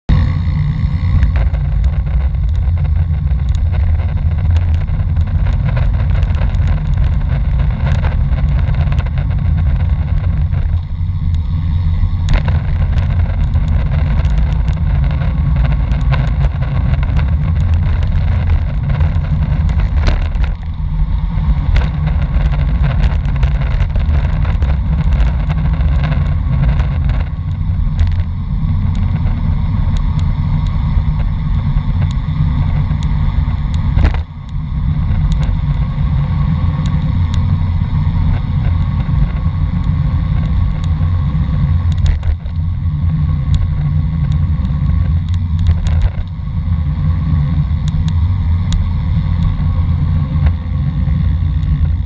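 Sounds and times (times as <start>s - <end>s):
bicycle clicks and rattles: 0.1s - 52.0s
wind buffeting microphone: 0.1s - 52.0s.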